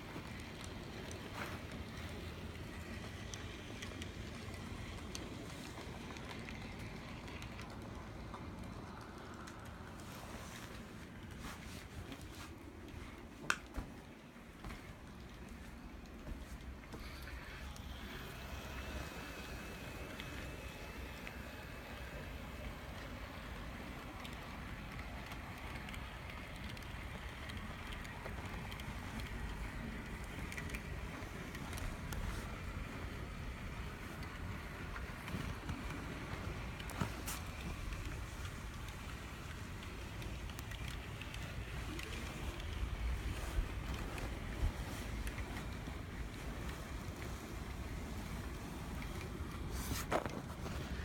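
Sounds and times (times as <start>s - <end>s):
model train rumbling on track: 0.0s - 12.9s, 15.1s - 51.0s.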